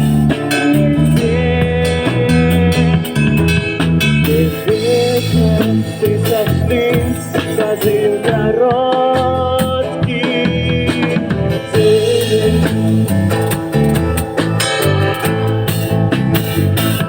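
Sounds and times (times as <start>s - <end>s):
bass guitar notes: 0.0s - 17.0s
bending lead guitar melody: 0.0s - 17.0s
drum beat: 0.0s - 17.0s.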